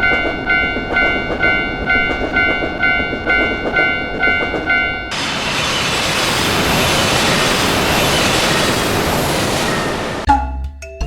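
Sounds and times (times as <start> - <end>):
railroad crossing bell ringing: 0.0 - 10.3
loud steady rushing noise: 1.1 - 10.3.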